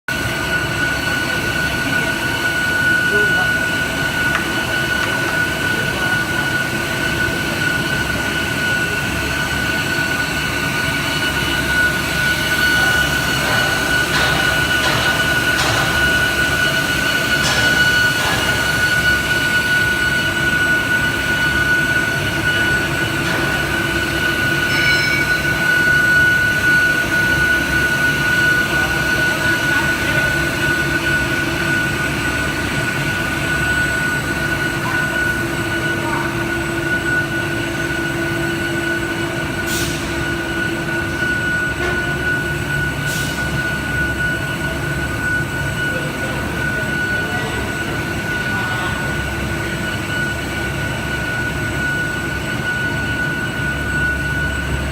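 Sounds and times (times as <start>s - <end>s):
machine mechanical drone: 0.1s - 54.9s
steady high whine: 0.1s - 54.9s.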